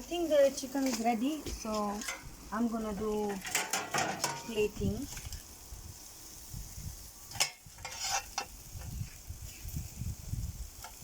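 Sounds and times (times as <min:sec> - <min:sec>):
food sizzling on a grill: 0:00.0 - 0:11.0.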